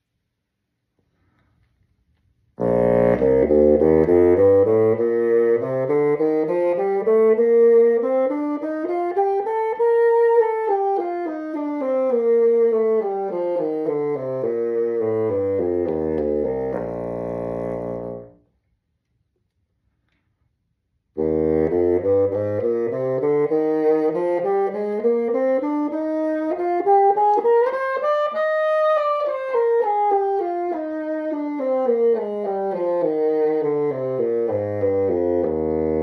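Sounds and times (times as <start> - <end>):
bassoon playing a scale: 2.6 - 18.4, 21.2 - 36.0.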